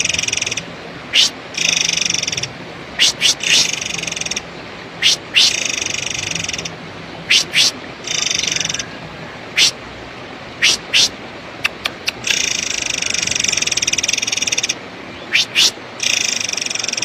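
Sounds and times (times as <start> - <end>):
bird buzzy pulsing trills: 0.0 - 9.9, 10.5 - 17.0.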